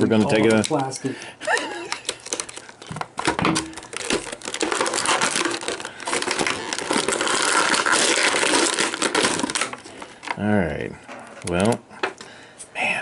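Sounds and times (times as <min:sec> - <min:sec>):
plastic packaging crinkling: 0:00.0 - 0:10.4, 0:11.2 - 0:11.8.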